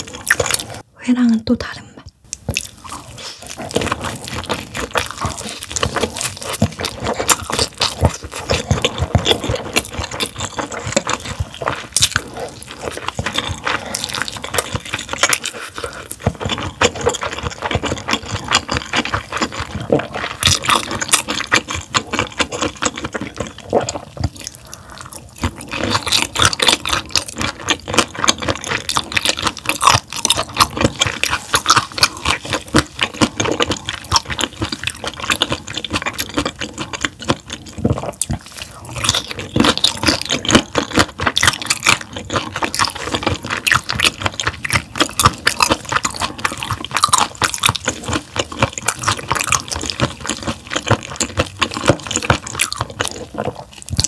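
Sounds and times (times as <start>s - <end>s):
wet crunchy chewing: 0.0s - 0.8s, 2.3s - 54.0s.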